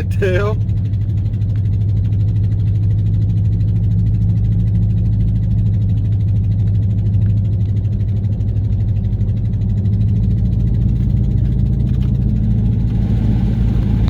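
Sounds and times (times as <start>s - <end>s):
truck engine and road drone: 0.0s - 14.0s.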